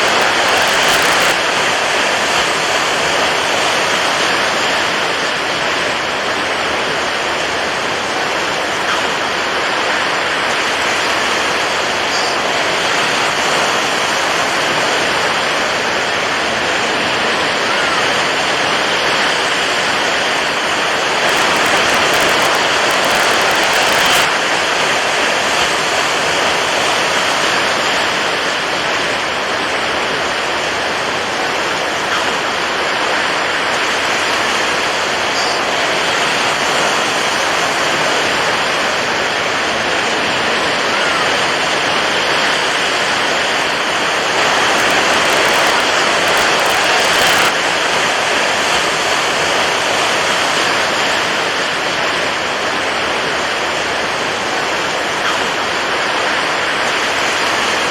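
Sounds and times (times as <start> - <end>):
water waves rushing: 0.0 - 57.9.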